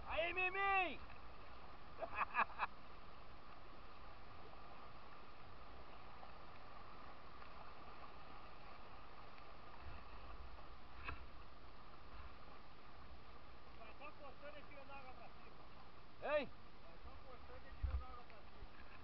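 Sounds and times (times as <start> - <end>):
water and wind hiss: 0.0 - 19.0.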